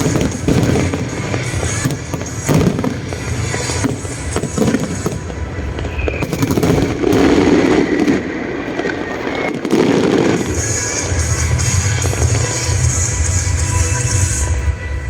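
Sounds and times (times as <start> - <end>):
fireworks bursting and crackling: 0.0 - 14.9.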